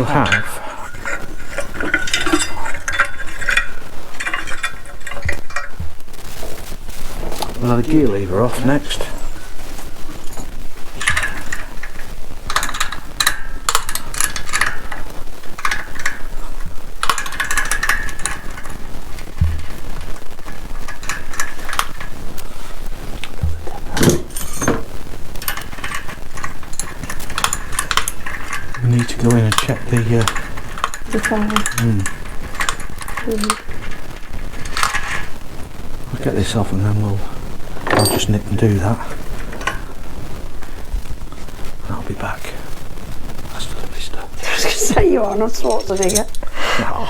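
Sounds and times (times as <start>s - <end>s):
metal tools clinking: 0.0s - 6.6s, 7.2s - 35.4s, 37.8s - 40.0s, 44.5s - 46.6s.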